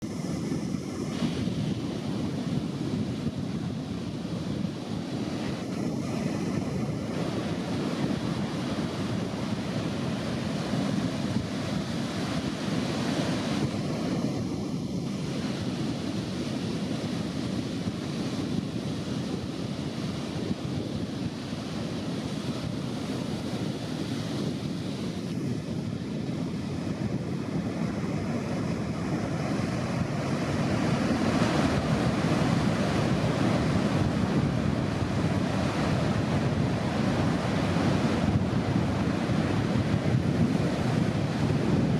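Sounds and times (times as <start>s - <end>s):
ocean surf: 0.0s - 41.9s
wind buffeting microphone: 0.0s - 41.9s.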